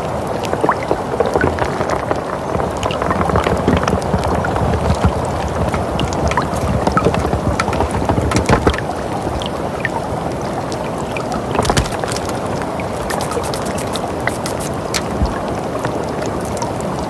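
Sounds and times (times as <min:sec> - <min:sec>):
sharp crackles and pops: 0:00.1 - 0:10.1, 0:10.8 - 0:16.6.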